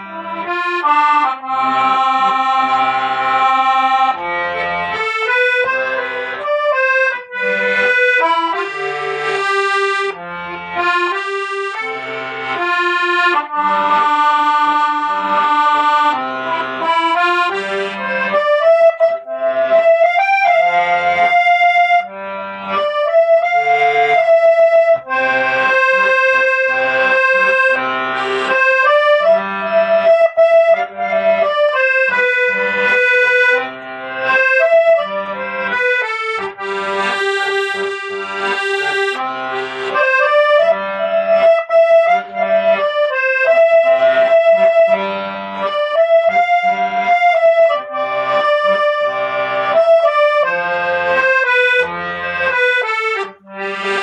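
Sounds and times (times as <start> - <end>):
accordion playing a melody: 0.0 - 54.0.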